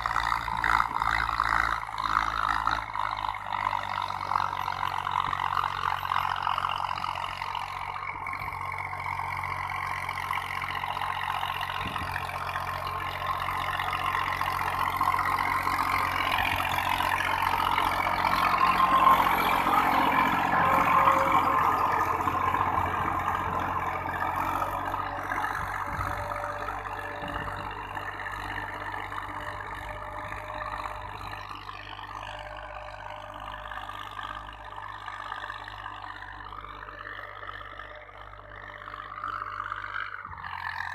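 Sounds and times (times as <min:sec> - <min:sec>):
tractor diesel engine: 0:00.0 - 0:40.9.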